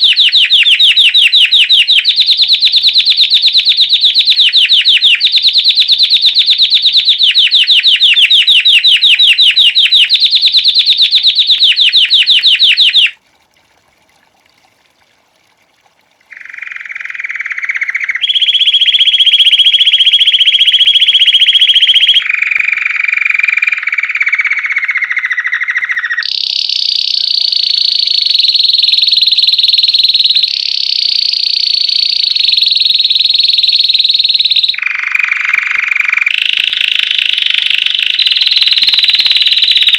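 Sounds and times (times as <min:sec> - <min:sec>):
canary singing trills: 0:00.0 - 0:13.2, 0:16.3 - 0:39.9.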